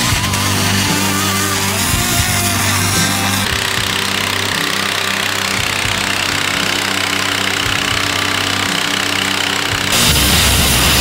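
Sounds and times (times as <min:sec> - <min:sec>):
rock music with distorted guitar: 0:00.0 - 0:11.0.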